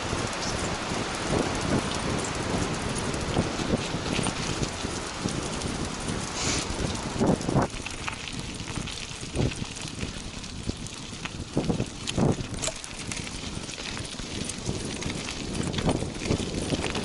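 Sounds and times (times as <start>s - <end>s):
cart wheels rolling on trail: 0.0s - 17.0s.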